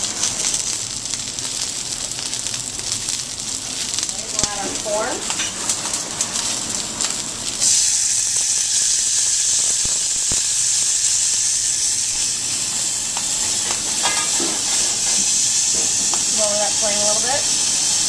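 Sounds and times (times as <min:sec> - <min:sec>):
corn sizzling in oil: 0:00.0 - 0:18.0.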